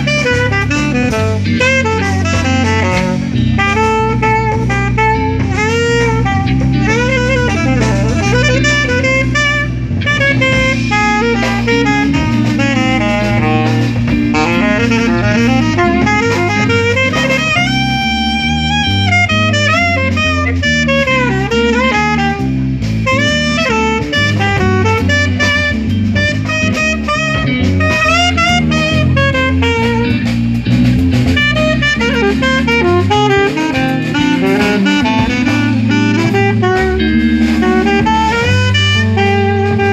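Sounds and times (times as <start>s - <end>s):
drum kit: 0.0s - 39.9s
saxophone solo: 0.0s - 39.9s
walking bass line: 0.0s - 39.9s.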